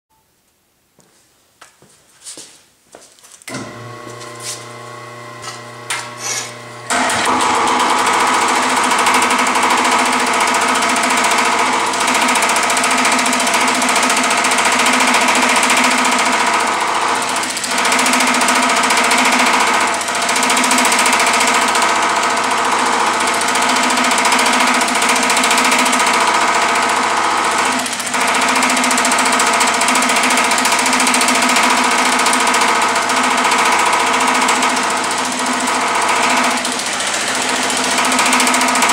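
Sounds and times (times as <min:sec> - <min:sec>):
power hammer motor running: 0:03.5 - 0:38.9
power hammer pounding: 0:05.4 - 0:38.9.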